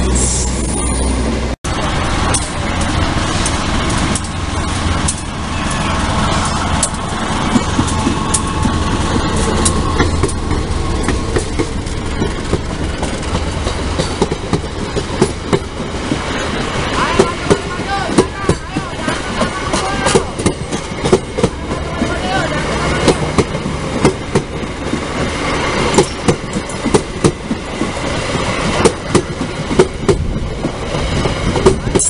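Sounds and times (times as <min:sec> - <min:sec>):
passenger train passing: 0:00.0 - 0:32.0.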